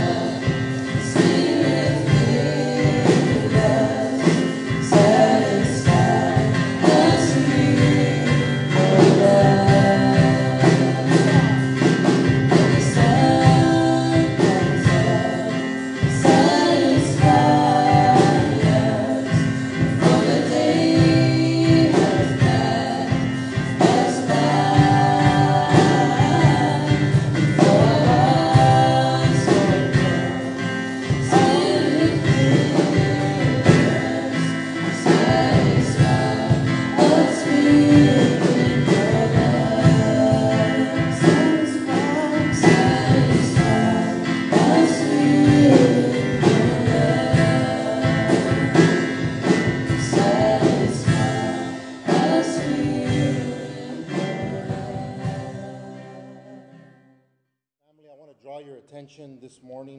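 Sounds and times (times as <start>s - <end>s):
drum kit: 0.0s - 56.3s
strummed acoustic guitar: 0.0s - 57.0s
women singing into microphones: 0.0s - 57.0s.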